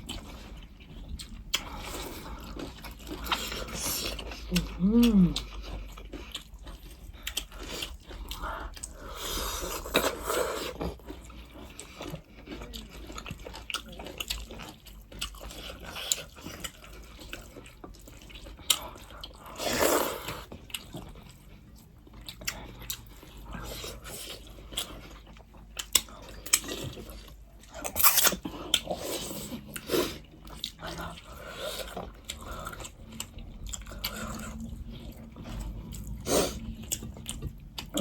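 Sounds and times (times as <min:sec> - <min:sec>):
chewing: 0:00.0 - 0:38.0.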